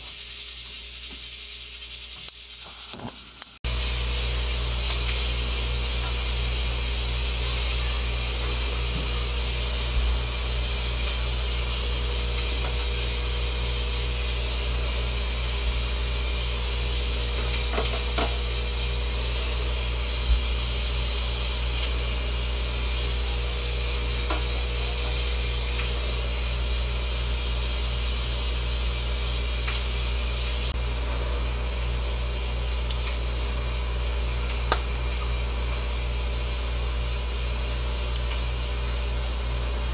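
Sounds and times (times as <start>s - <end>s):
mechanical hum: 0.0s - 39.9s.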